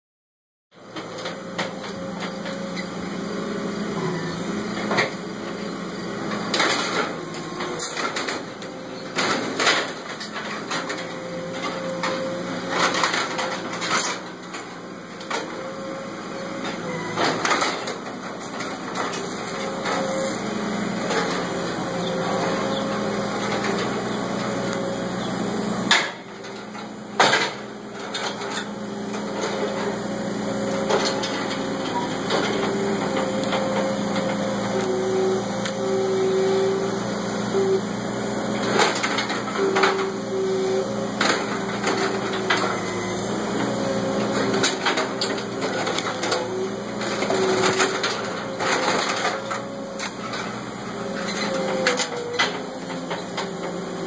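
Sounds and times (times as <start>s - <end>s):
diesel engine under load: 0.8s - 54.0s.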